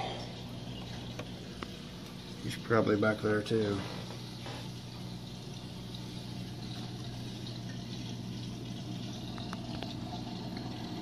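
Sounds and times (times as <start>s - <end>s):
aquarium pump hum: 0.0s - 11.0s
water trickling: 0.0s - 11.0s.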